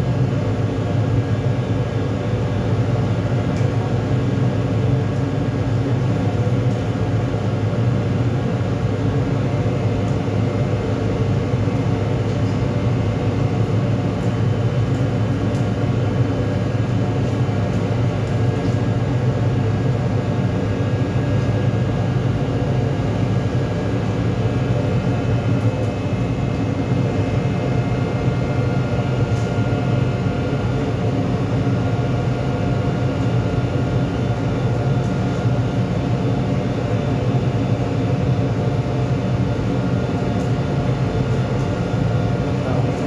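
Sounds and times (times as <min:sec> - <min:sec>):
faint hum tones: 0:00.0 - 0:43.0.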